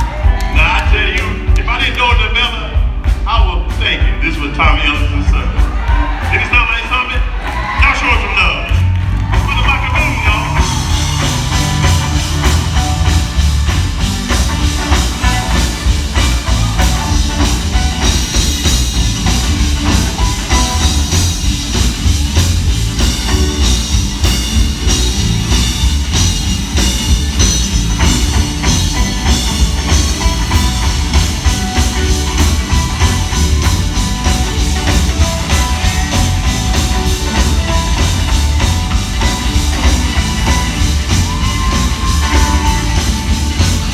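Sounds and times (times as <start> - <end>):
bass guitar: 0.0 - 43.9
drum kit beat: 0.0 - 43.9
electric guitar: 8.6 - 43.9.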